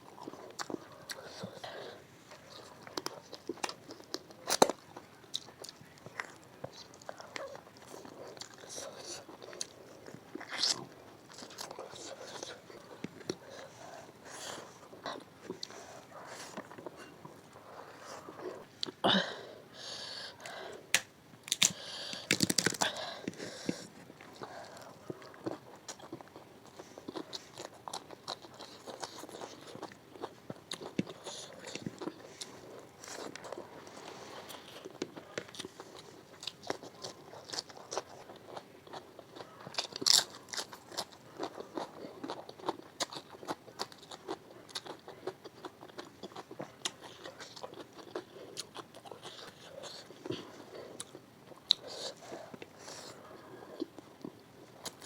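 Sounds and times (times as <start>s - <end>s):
close chewing and biting: 0.0s - 19.0s, 20.3s - 55.0s.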